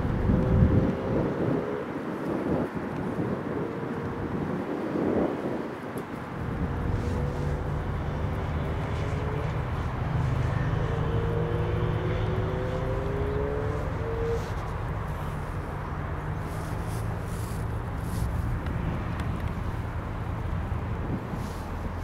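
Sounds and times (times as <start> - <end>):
jet engines rumbling overhead: 0.0 - 22.0.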